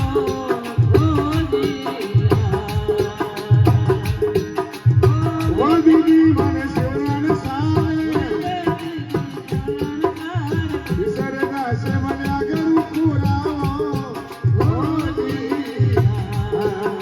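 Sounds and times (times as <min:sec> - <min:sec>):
drum beat: 0:00.0 - 0:17.0
fast ticking percussion: 0:00.0 - 0:17.0.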